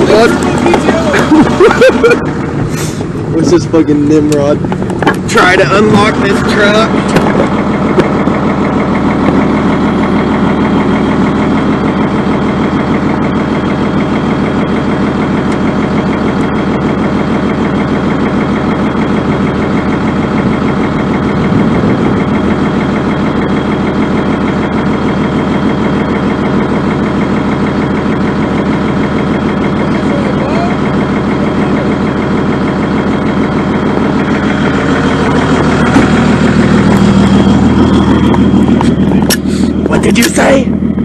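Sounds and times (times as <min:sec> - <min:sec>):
vehicle engine idling: 0:00.0 - 0:41.0.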